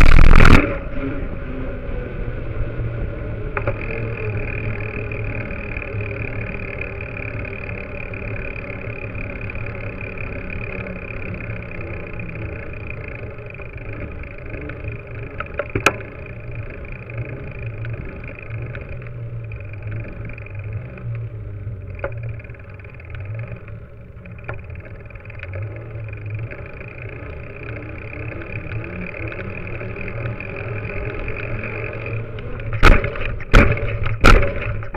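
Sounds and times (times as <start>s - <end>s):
bike rattling: 0.0s - 34.9s
bike tyre rumbling on paving: 0.0s - 34.9s.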